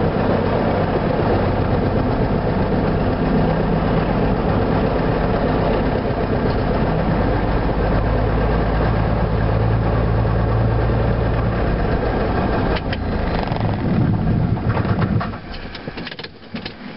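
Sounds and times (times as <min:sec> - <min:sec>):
propeller winding down: 0:00.0 - 0:16.1
piston aircraft engine idling: 0:00.0 - 0:16.9.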